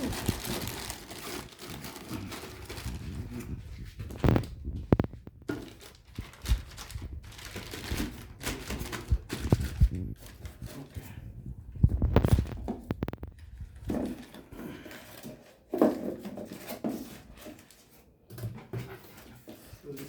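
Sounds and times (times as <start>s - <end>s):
plastic and cardboard rustling: 0.0s - 20.0s.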